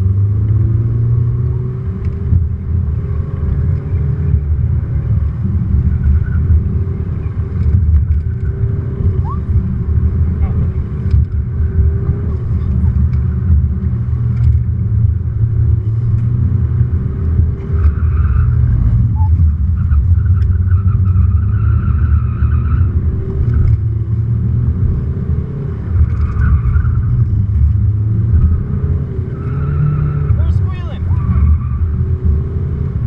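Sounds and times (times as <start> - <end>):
car engine revving: 0.0 - 33.0
road rumble: 0.0 - 33.0.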